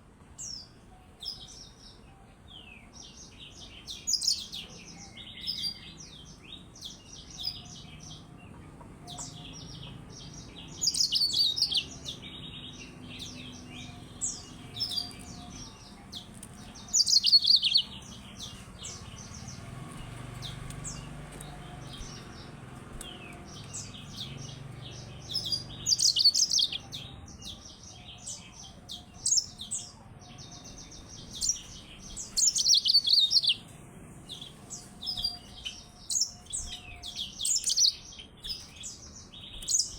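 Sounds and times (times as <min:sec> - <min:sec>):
small bird singing chirps and trills: 0:00.0 - 0:39.9.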